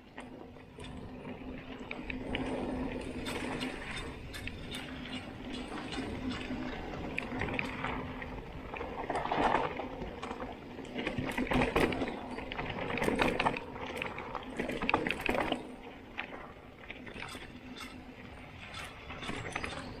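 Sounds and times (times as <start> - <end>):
bike rattling over bumps: 0.0 - 20.0
bike tyres on dirt and roots: 0.0 - 20.0.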